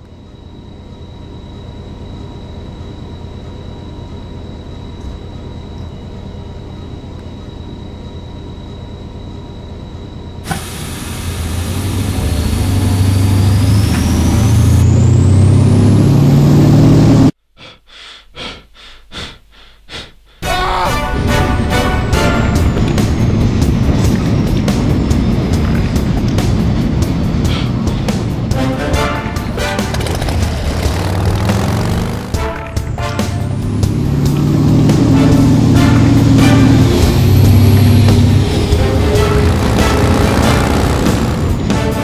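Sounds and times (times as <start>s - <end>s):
locomotive whine: 0.0s - 17.4s, 20.4s - 42.0s
train rumbling on track: 0.0s - 17.4s, 20.4s - 42.0s.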